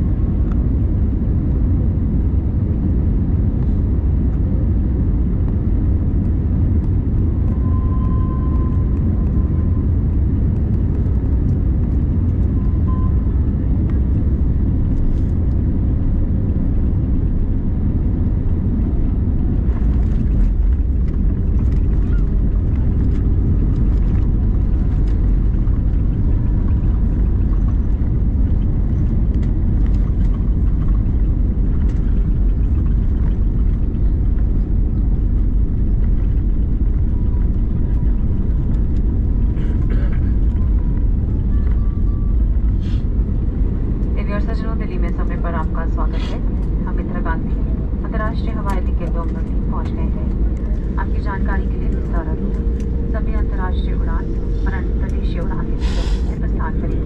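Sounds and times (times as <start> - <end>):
aircraft cabin engine rumble: 0.0 - 57.0.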